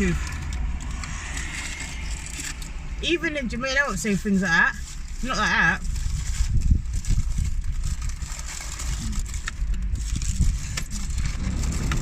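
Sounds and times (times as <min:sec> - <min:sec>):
low rumble inside a car: 0:00.0 - 0:12.0
rustling: 0:00.0 - 0:12.0.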